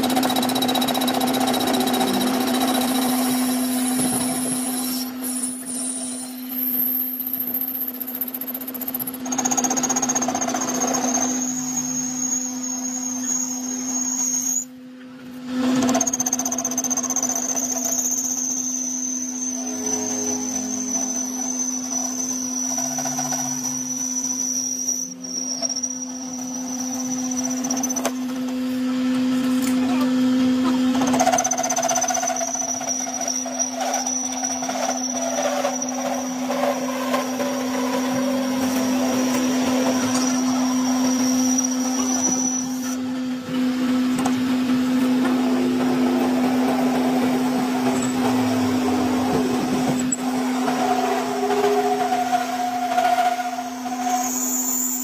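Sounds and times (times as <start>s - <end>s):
rough tool working noise: 0.0s - 14.7s, 15.6s - 55.0s.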